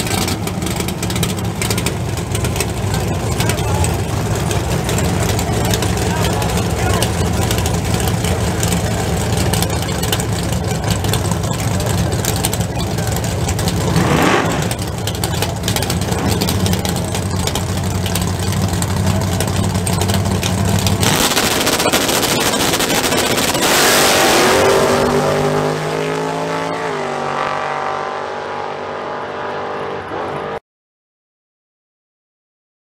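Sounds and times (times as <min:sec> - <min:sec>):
drag car engine launching: 0:00.0 - 0:26.4.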